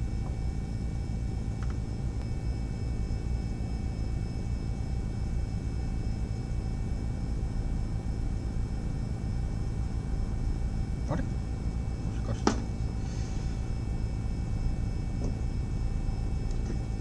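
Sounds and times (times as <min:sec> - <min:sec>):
faint high whining tones: 0:00.0 - 0:17.0
low rumble and hiss: 0:00.0 - 0:17.0.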